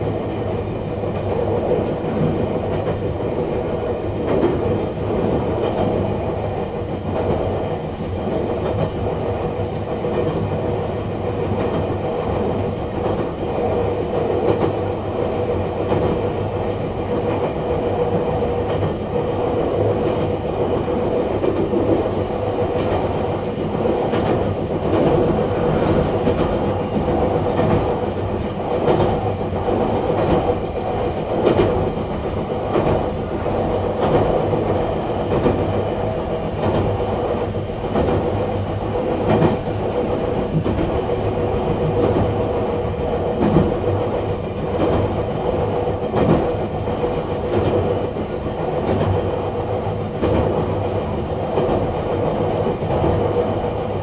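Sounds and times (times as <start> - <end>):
steady train hum: 0.0 - 54.0
train wheels rumbling on rail: 0.0 - 54.0.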